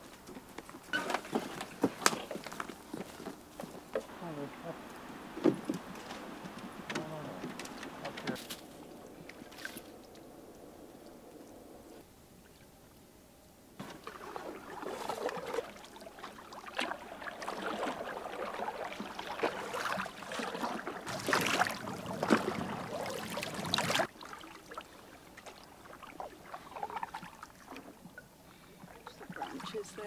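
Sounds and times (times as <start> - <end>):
canoe paddles splashing in water: 0.9 - 12.0, 13.8 - 30.0.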